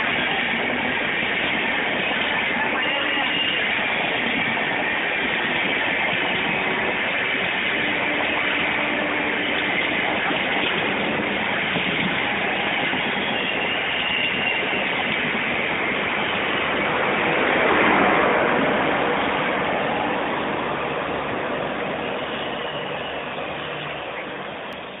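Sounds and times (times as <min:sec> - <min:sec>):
train wheels rushing on rails: 0:00.0 - 0:25.0.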